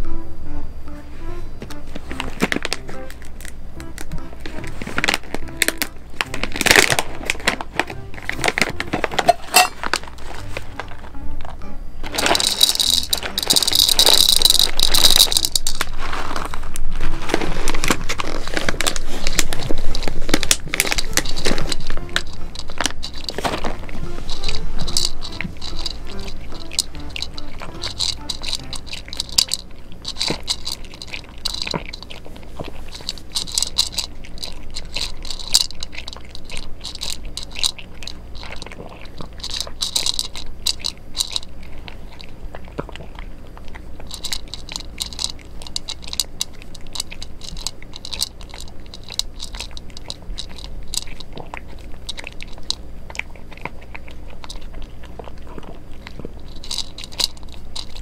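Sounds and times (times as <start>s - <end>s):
cat crunching dry kibble: 1.7s - 58.0s.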